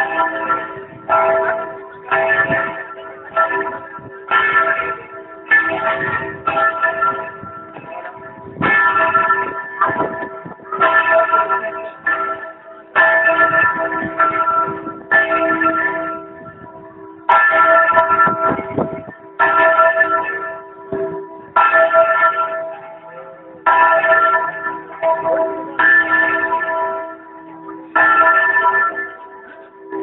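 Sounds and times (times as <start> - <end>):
bell tolling: 0.0 - 30.0.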